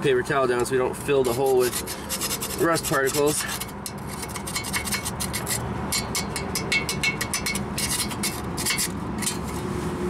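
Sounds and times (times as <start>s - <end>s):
hand file rasping metal: 1.1s - 9.5s.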